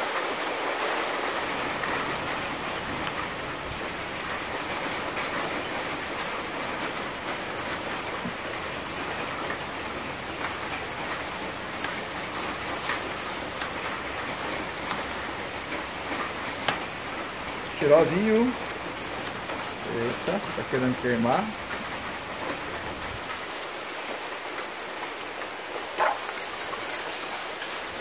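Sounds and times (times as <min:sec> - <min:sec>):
sausage sizzling: 0:01.4 - 0:28.0
sharp crackles: 0:01.7 - 0:28.0.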